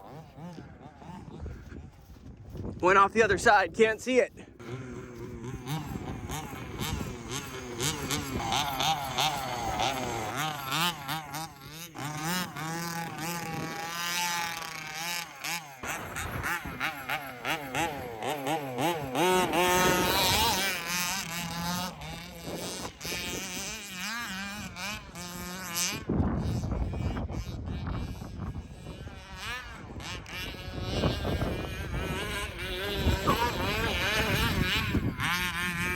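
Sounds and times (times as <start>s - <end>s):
rc buggy engine revving: 0.0s - 35.9s.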